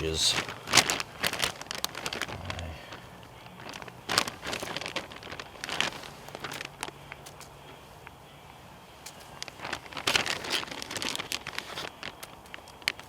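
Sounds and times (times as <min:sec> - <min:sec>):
leaf litter crunching: 0:00.0 - 0:13.0
twigs snapping: 0:00.0 - 0:13.0.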